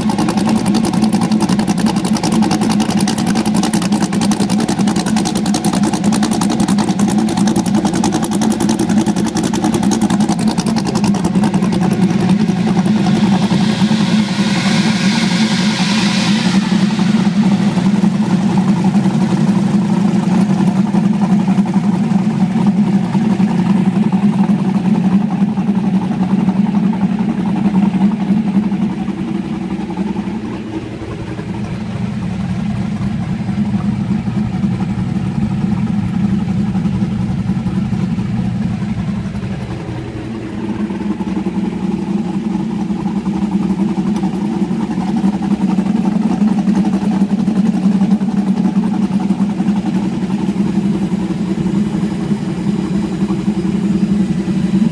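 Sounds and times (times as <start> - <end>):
race buggy engine running: 0.0 - 54.9.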